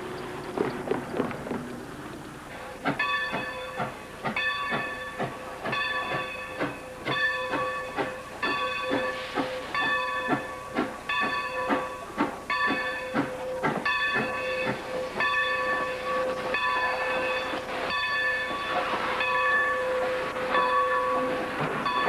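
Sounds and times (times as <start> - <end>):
steam hissing and chuffing: 0.0 - 22.0
locomotive bell ringing: 3.0 - 22.0.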